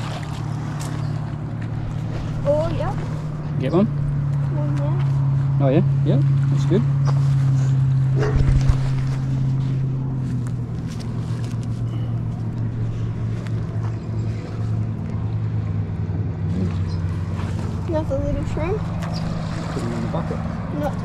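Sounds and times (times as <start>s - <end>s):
motorboat engine drone: 0.0s - 21.0s.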